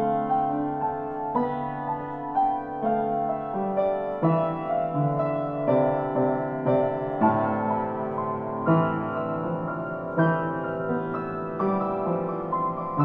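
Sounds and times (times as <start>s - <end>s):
slow upright piano notes: 0.0s - 13.0s.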